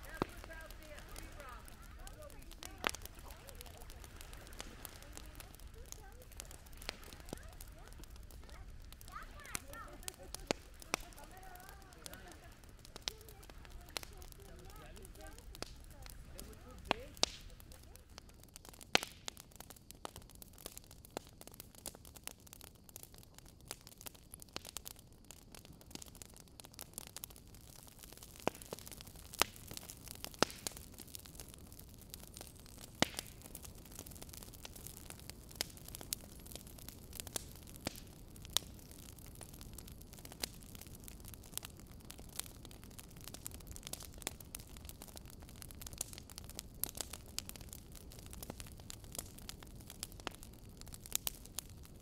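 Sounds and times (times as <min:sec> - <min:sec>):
sharp crackling clicks: 0:00.0 - 0:22.4, 0:23.0 - 0:51.9.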